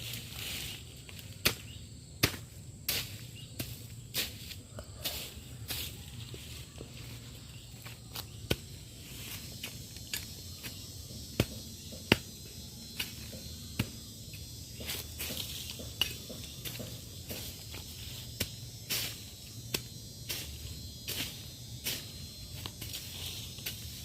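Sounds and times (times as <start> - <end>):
night insects: 0.0 - 24.0.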